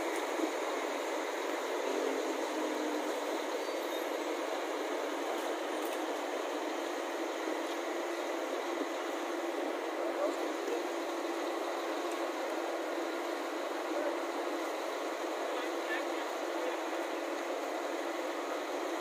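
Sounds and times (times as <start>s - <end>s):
diesel coaches idling: 0.0s - 19.0s.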